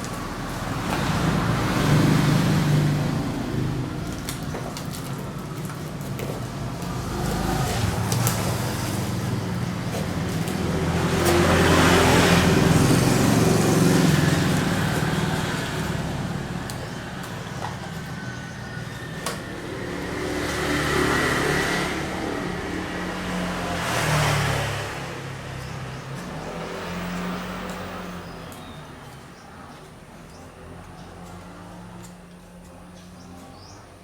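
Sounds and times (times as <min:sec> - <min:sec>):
road traffic engine hum: 0:00.0 - 0:34.0
vehicles passing: 0:00.0 - 0:34.0.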